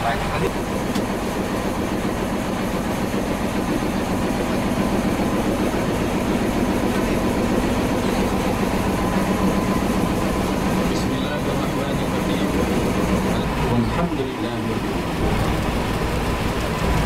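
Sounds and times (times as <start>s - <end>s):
locomotive engine idling: 0.0s - 17.0s.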